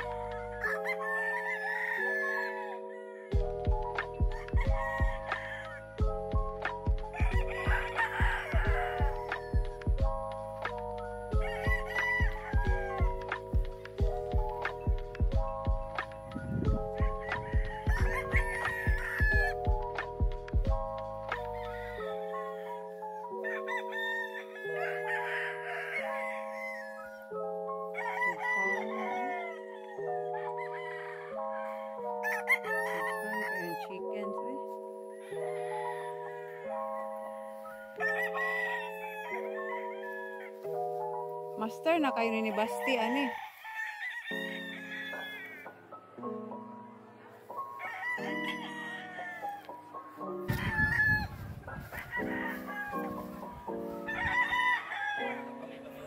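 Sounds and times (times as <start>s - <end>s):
rooster crowing: 0.0s - 3.5s, 4.2s - 6.2s, 7.1s - 9.6s, 11.3s - 13.6s, 16.2s - 33.9s, 35.2s - 41.1s, 42.6s - 45.8s, 47.7s - 56.0s
background music of sustained chords: 0.0s - 56.0s.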